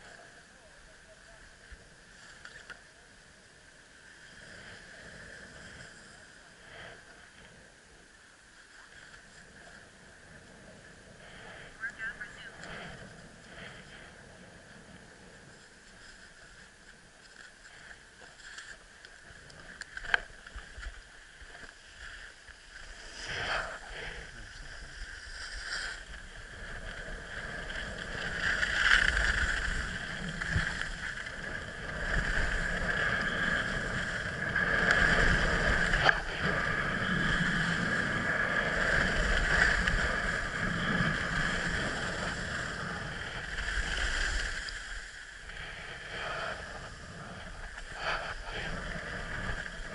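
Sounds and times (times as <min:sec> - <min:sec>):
skis carving over snow: 0:08.7 - 0:49.9.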